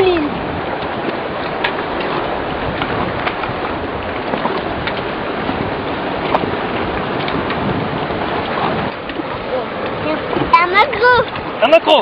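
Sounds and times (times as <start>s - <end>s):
sea water rushing: 0.0s - 12.0s.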